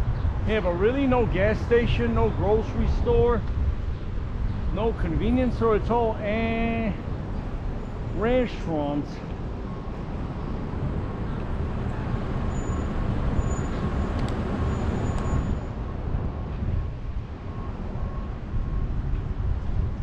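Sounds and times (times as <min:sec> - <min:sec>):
road traffic: 0:00.0 - 0:20.0
wind rumble on microphone: 0:00.0 - 0:20.0.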